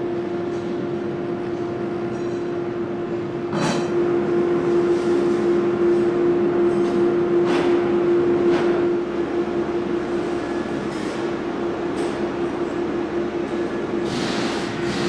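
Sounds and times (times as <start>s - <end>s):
crane hoist and machinery running: 0.0s - 15.0s.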